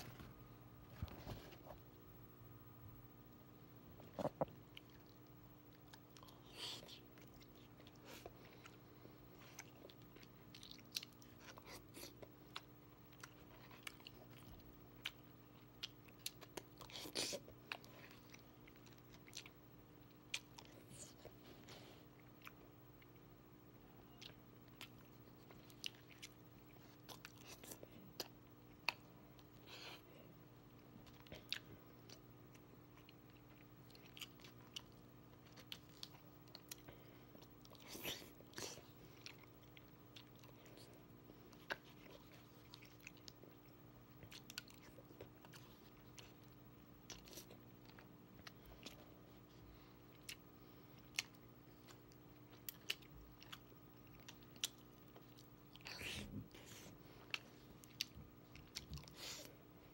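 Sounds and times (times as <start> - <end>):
faint steady hum: 0.0 - 59.9
close-up chewing and mouth smacks: 4.0 - 23.3, 24.0 - 59.9.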